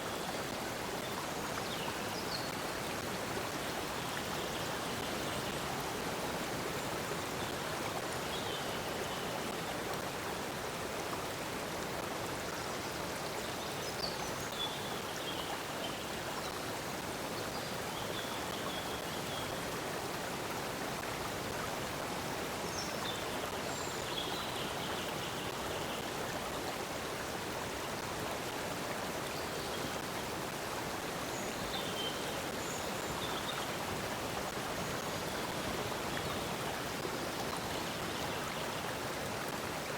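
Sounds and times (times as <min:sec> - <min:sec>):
stream water burbling: 0:00.0 - 0:39.9.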